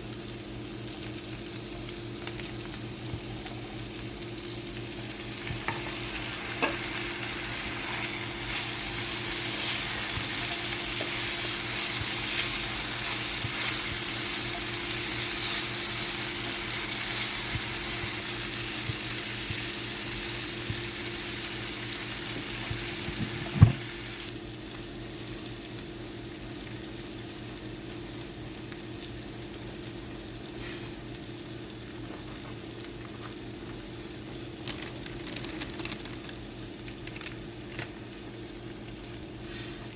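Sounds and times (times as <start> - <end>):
food sizzling in a hot pan: 0.0 - 34.6, 38.0 - 39.9.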